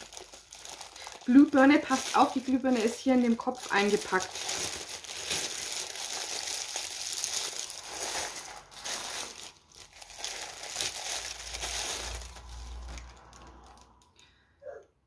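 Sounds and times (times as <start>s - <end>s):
plastic wrapping crinkling: 0.0s - 14.1s.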